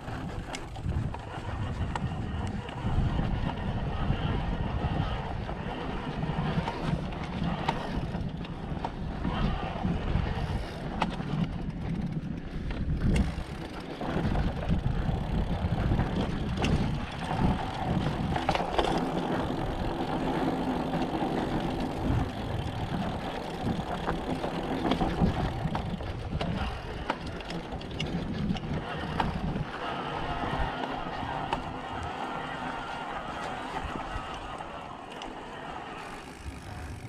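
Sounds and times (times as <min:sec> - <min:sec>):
bike clicks and rattles: 0:00.0 - 0:37.0
bike tyre rumble on rock: 0:00.0 - 0:37.0.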